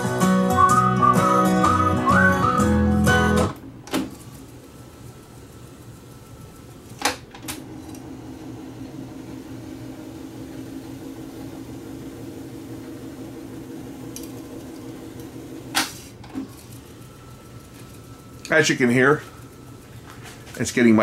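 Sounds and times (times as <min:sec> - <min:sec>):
tape reels whirring: 0:00.0 - 0:21.0.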